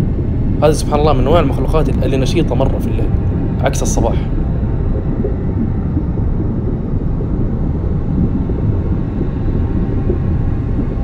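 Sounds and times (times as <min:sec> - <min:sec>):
muffled underwater water rumble: 0:00.0 - 0:11.0.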